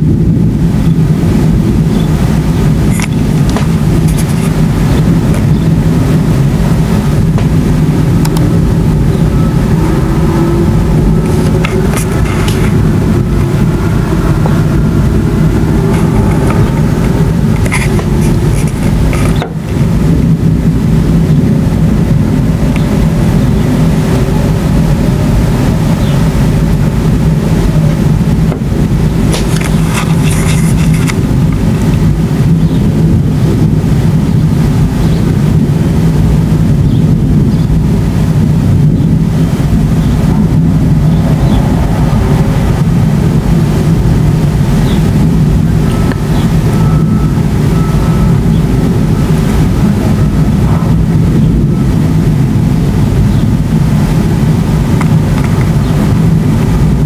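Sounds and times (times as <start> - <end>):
thunder rumbling: 0.0 - 57.0.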